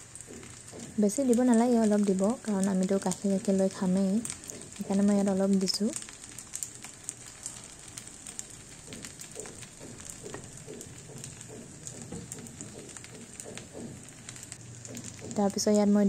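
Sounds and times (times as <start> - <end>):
pasta sizzling with small crackles: 0.0 - 16.0.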